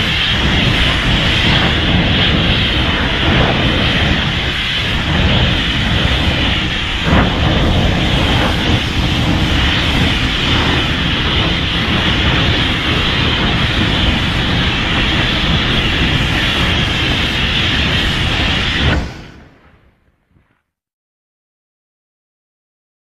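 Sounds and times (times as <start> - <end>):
monster rushing rumble: 0.0 - 20.0.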